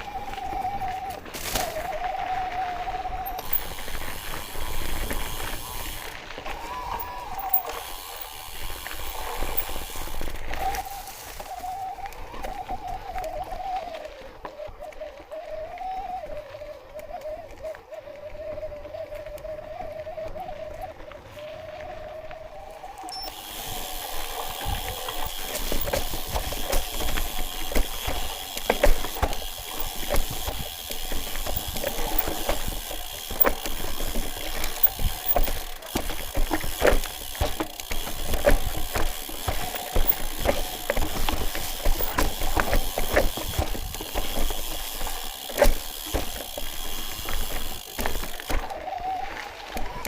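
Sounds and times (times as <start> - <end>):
footsteps on rocky trail: 0.0 - 15.3, 23.1 - 50.0.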